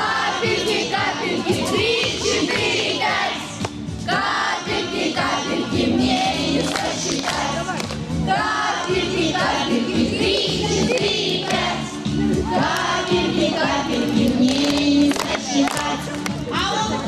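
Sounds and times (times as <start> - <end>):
children singing together: 0.0 - 7.5, 8.3 - 16.1.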